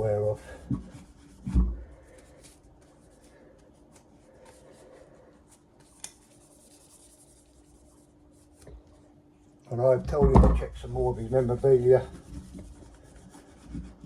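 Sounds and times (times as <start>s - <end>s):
rubbing and handling noises: 0.0s - 9.1s, 9.8s - 14.0s
steady low hum: 0.0s - 14.0s.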